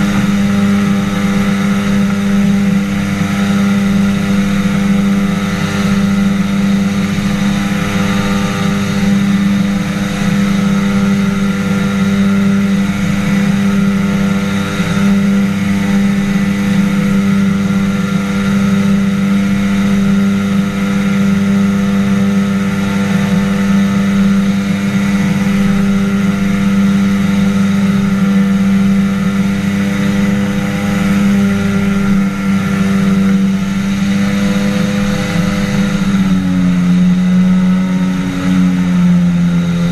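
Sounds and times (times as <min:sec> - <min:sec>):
propeller engine drone: 0:00.0 - 0:39.9.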